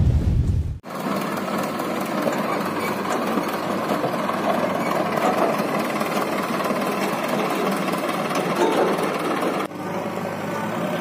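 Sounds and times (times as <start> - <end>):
tractor diesel engine running: 0.8 - 11.0.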